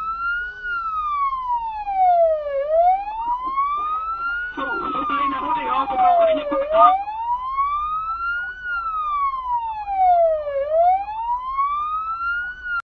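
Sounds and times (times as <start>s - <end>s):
police siren wailing: 0.0s - 12.8s.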